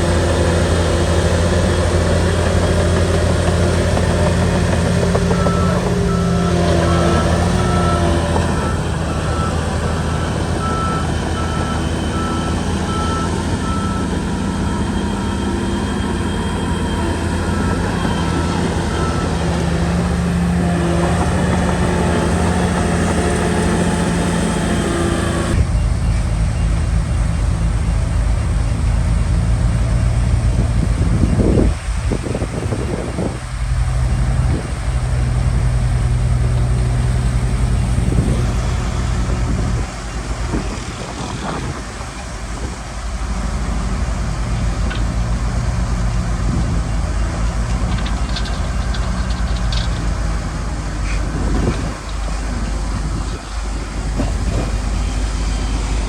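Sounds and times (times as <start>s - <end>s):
bulldozer diesel engine running: 0.0s - 56.0s
deep engine rumble: 0.0s - 56.0s.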